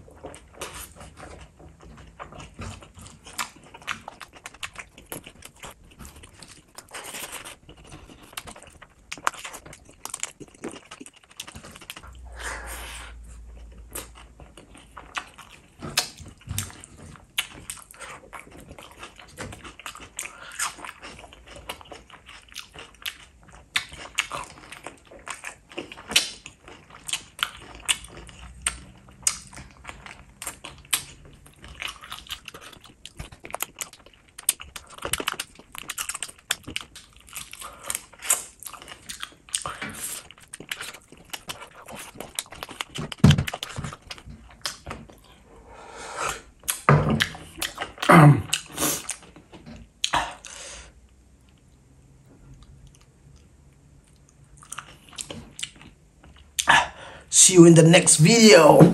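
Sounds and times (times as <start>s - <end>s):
wet chewing and lip smacks: 0.1s - 12.2s, 13.4s - 45.4s, 46.6s - 51.8s, 52.5s - 57.0s.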